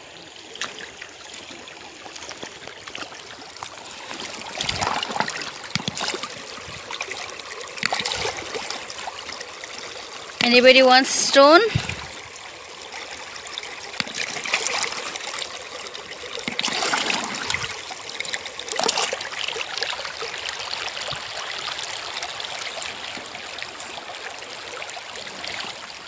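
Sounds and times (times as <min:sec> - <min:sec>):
shallow river water trickling: 0:00.0 - 0:26.0.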